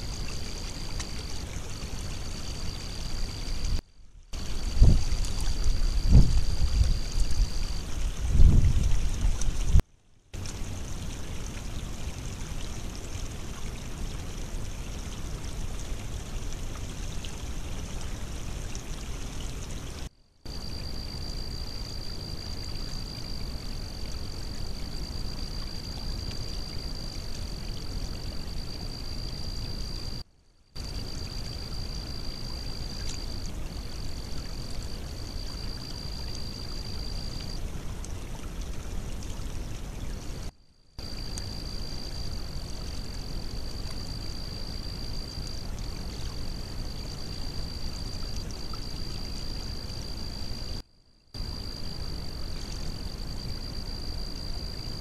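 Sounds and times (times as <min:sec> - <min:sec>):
water running and trickling: 0:00.0 - 0:03.8, 0:04.4 - 0:09.8, 0:10.4 - 0:30.2, 0:30.8 - 0:50.8, 0:51.4 - 0:55.0.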